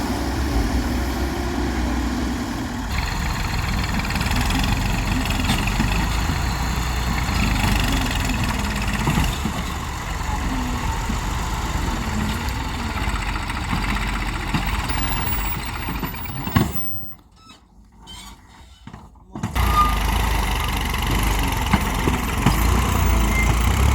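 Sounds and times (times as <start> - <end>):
heavy diesel engine running: 0.0 - 17.2, 19.4 - 23.9.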